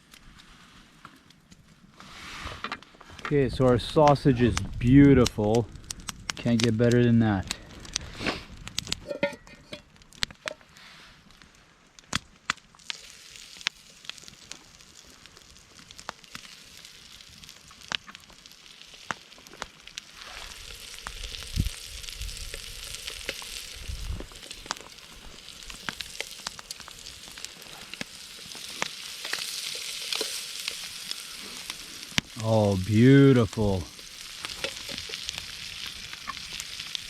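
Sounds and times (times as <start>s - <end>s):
sausage sizzling and popping: 3.0s - 37.0s.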